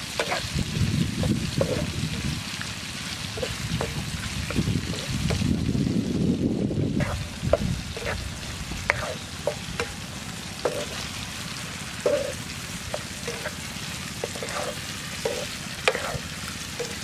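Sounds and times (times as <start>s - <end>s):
stirring rustle: 0.0s - 6.1s, 6.8s - 17.0s
liver sizzling in a pan: 0.0s - 17.0s.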